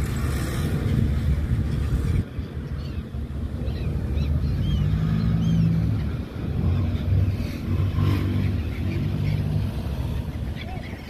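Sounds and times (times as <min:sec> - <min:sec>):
boat engine rumble: 0:00.0 - 0:11.0
gulls calling: 0:00.0 - 0:11.0.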